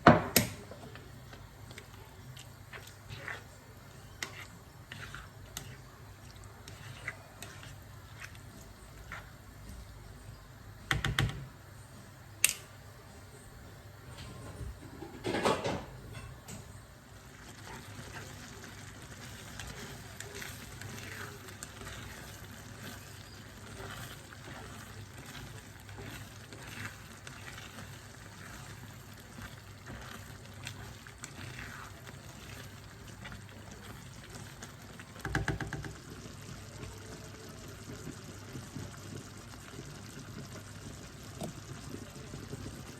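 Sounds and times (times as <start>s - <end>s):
sauce simmering with soft hiss: 0.0s - 42.9s.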